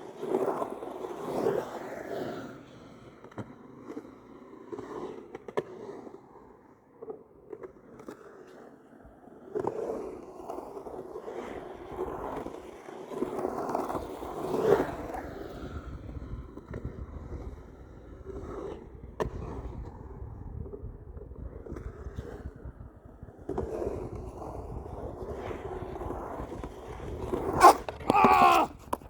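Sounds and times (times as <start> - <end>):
skateboard clacks: 0.0 - 29.0
skateboard wheels rolling and scraping: 0.0 - 29.0.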